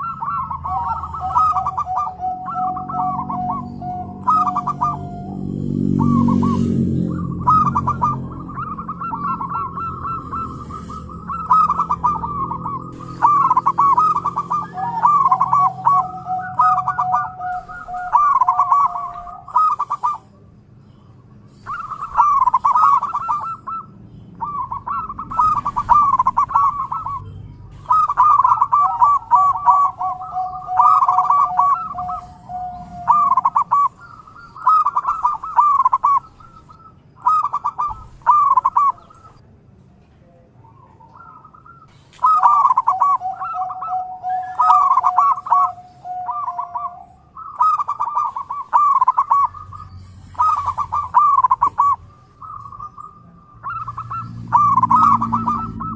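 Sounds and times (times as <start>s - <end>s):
doves cooing: 0.0s - 20.7s, 21.5s - 39.4s, 40.6s - 55.9s.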